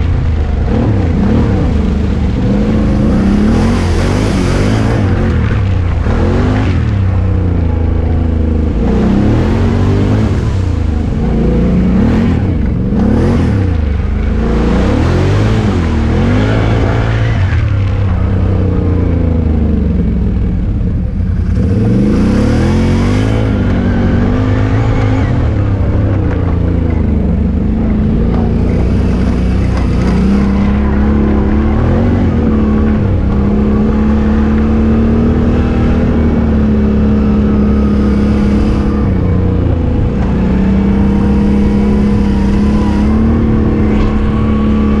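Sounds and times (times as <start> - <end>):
atv engine running hard: 0.0 - 45.0.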